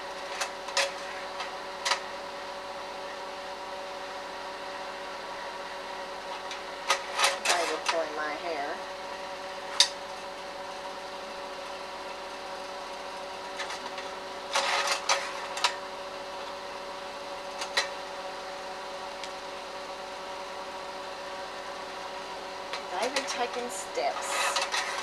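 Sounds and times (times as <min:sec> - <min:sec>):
projector fan humming: 0:00.0 - 0:25.0.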